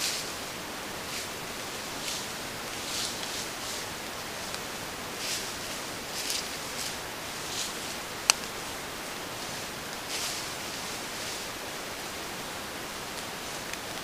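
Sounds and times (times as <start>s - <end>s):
microphone hiss: 0.0s - 14.0s
rustles in dry leaves: 0.0s - 14.0s.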